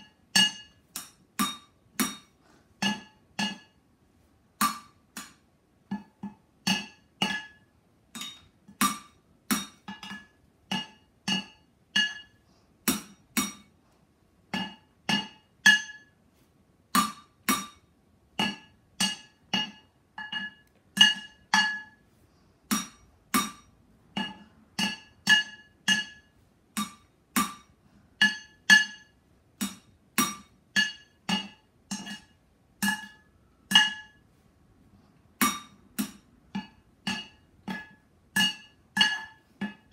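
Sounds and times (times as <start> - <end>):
drumsticks beating on cooking pots: 0.0 - 3.8, 4.6 - 13.8, 14.4 - 16.2, 16.9 - 22.0, 22.6 - 34.2, 35.3 - 39.9.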